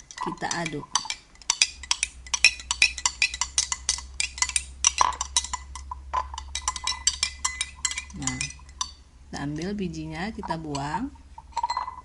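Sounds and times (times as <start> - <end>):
spoon clinking in a glass: 0.0 - 9.0, 10.4 - 12.0.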